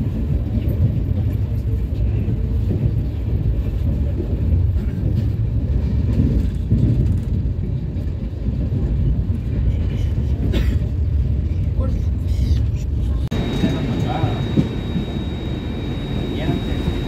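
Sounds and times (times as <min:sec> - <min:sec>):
train coach low rumble: 0:00.0 - 0:17.0.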